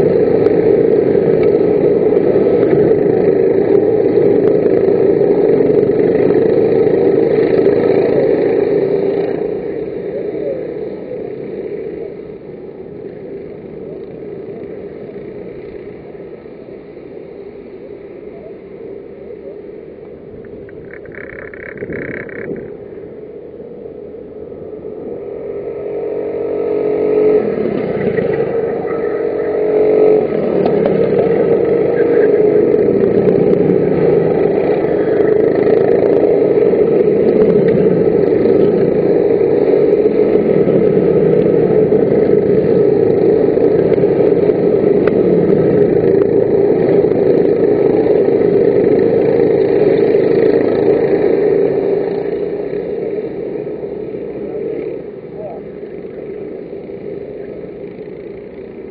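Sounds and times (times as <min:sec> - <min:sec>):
kart engines revving: 0:00.0 - 0:58.9.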